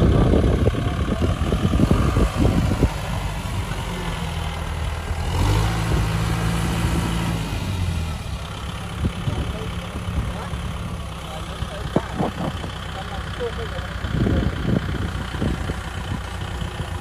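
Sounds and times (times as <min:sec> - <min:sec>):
tractor diesel engine working hard: 0:00.0 - 0:17.0.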